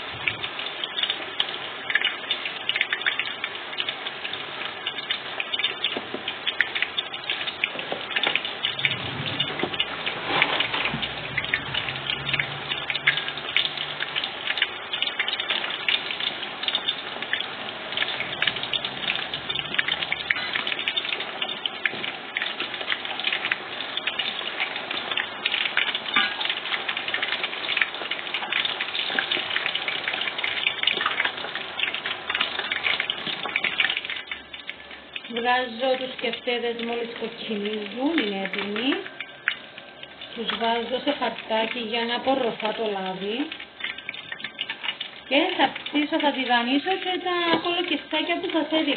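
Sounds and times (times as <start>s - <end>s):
meatballs deep-frying in oil: 0.0s - 48.9s.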